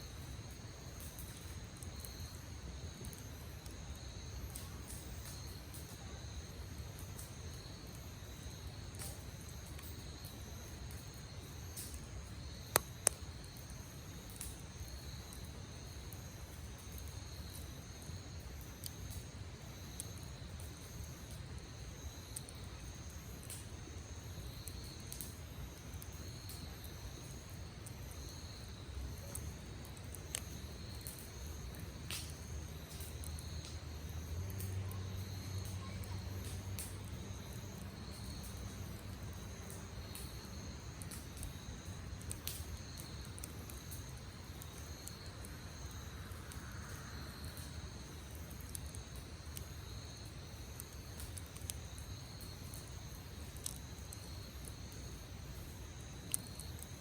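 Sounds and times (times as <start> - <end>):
campfire crackling and popping: 0.0 - 57.0
insects chirping: 0.0 - 57.0.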